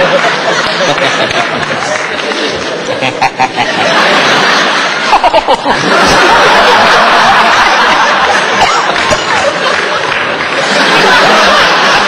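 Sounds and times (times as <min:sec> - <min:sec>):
studio audience laughing: 0:00.0 - 0:12.0.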